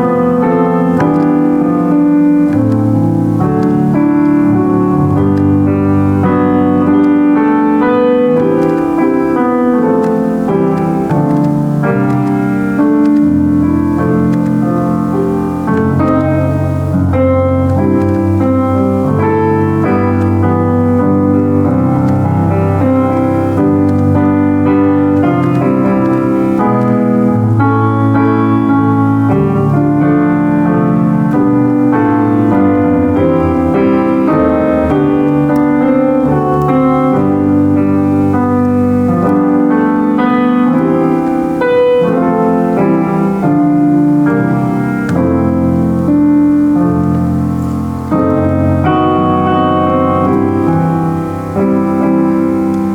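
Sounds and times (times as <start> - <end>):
solo piano playing: 0.0 - 52.9.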